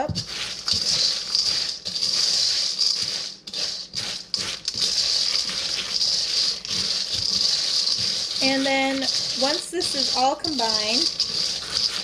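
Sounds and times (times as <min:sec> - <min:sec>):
spatula scraping metal bowl: 0:00.0 - 0:12.0.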